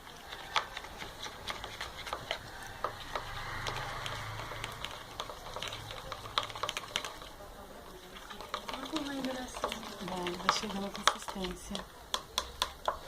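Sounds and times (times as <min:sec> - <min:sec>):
slime being stirred with spatula: 0:00.0 - 0:13.0.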